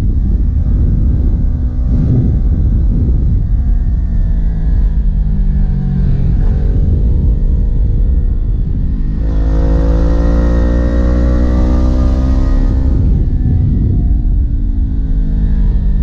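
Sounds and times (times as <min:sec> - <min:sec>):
motorcycle engine revving: 0:00.0 - 0:16.0
wind rumble on microphone: 0:00.0 - 0:16.0.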